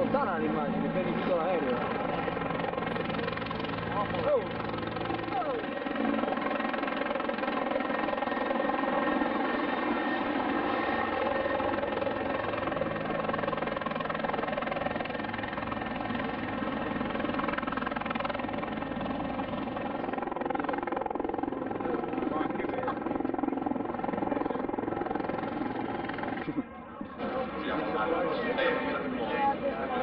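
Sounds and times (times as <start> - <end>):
aircraft engine droning: 0.0 - 30.0.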